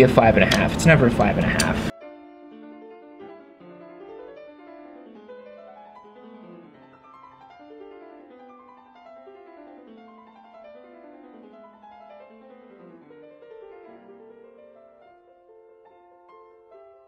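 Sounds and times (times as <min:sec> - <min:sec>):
piano music with quick runs: 0:00.0 - 0:17.0.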